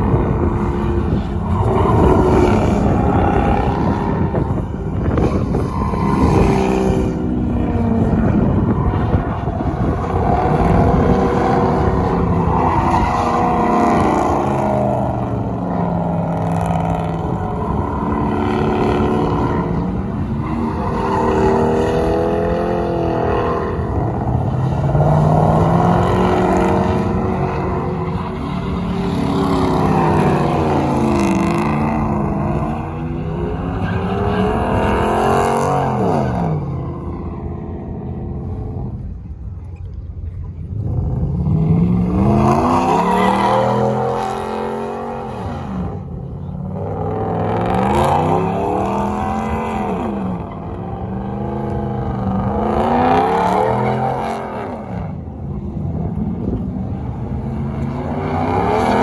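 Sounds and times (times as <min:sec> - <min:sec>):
truck engine revving: 0:00.0 - 0:39.5, 0:40.7 - 0:59.0.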